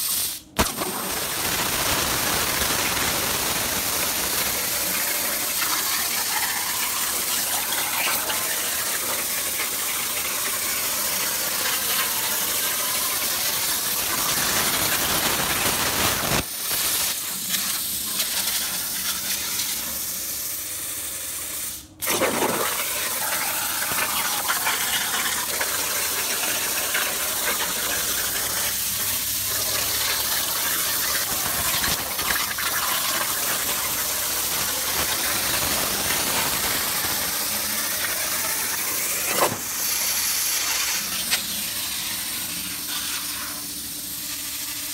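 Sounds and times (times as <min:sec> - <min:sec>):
plasma cutter hissing: 0:00.0 - 0:44.9.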